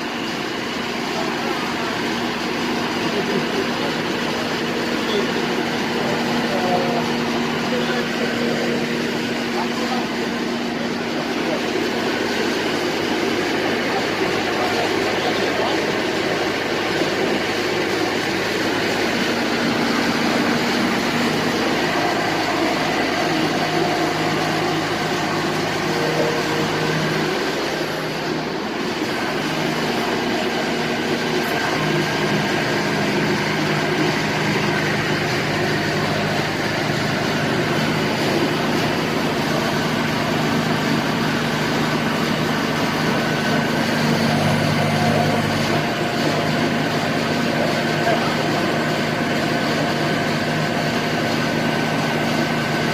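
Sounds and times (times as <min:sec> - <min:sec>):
drilling rig machine drone: 0:00.0 - 0:52.9.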